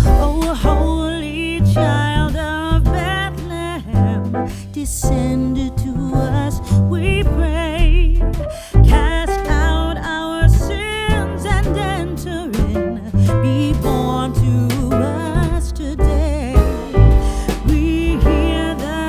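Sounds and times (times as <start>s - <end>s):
person singing: 0.0s - 19.0s
steady bass beat: 0.0s - 19.0s.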